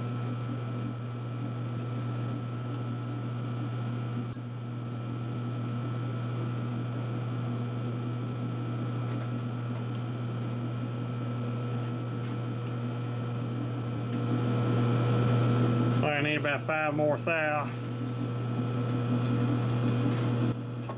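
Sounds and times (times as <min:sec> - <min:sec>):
lathe motor hum: 0:00.0 - 0:20.9.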